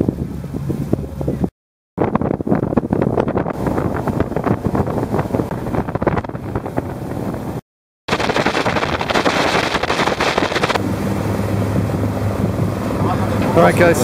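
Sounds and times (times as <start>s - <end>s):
motorboat engine hum: 0.0s - 14.0s
wind buffeting microphone: 0.0s - 14.0s
rushing water: 2.5s - 14.0s.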